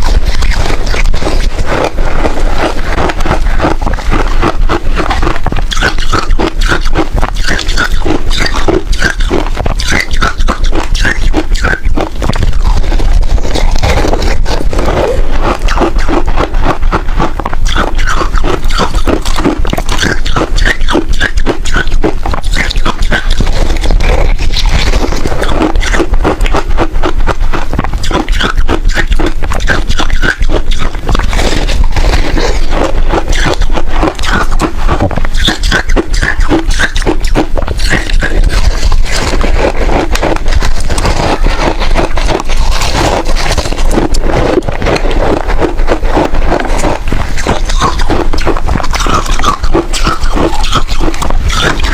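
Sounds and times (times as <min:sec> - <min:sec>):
chewing and crunching ice: 0:00.0 - 0:51.9.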